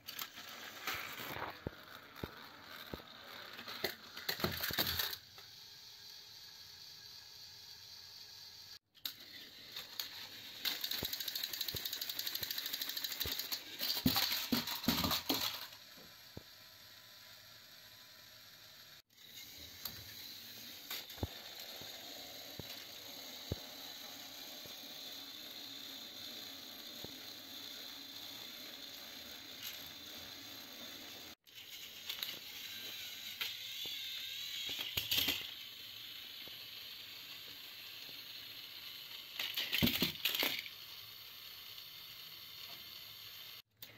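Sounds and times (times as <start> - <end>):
plastic gears rattling and clicking: 0.0 - 7.1, 9.0 - 18.2, 19.2 - 43.9
toy train motors whirring: 0.0 - 43.9.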